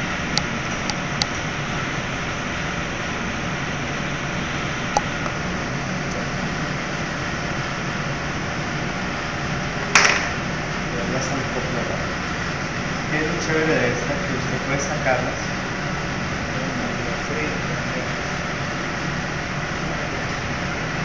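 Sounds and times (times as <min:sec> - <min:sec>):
kitchen ventilation hum: 0:00.0 - 0:21.0.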